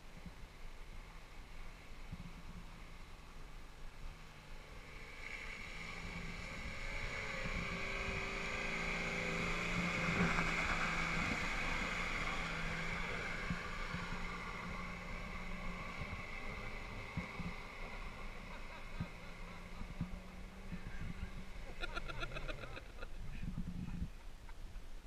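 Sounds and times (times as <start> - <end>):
off-road vehicle engine passing: 0.2 - 25.0.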